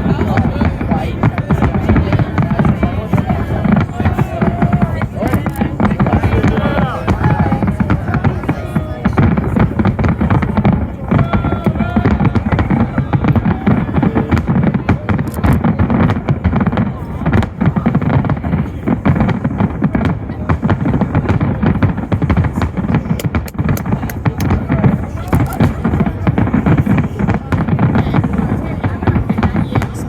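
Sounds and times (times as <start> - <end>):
fireworks and firecrackers banging: 0.0 - 30.0.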